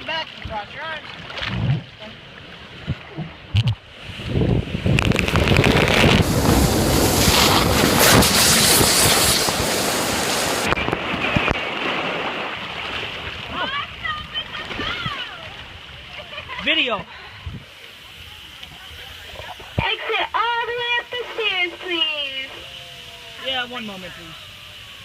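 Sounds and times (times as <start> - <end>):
rush of wind and sliding water: 0.0 - 25.0.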